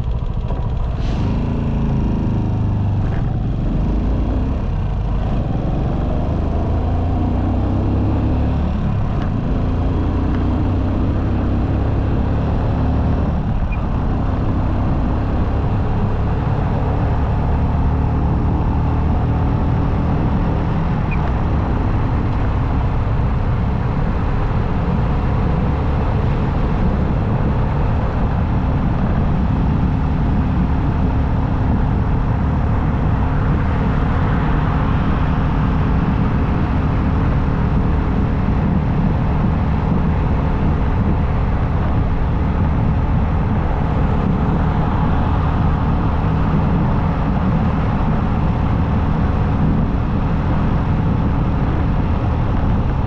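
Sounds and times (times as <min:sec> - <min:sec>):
motorcycle engine hum: 0:00.0 - 0:53.0
road noise: 0:00.0 - 0:53.0
wind rush: 0:00.0 - 0:53.0.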